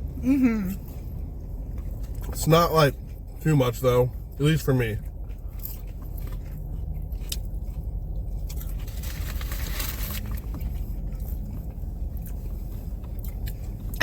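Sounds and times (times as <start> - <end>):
chewing and crunching food: 0.0 - 14.0
steady low hum: 0.0 - 14.0.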